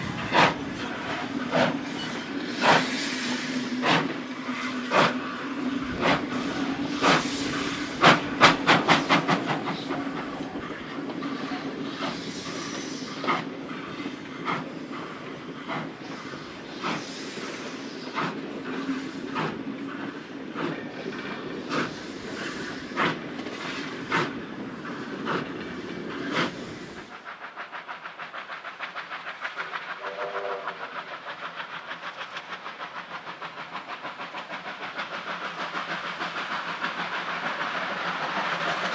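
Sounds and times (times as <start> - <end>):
steady train hum: 0.0 - 38.9
train wheels clicking over rail joints: 0.0 - 38.9.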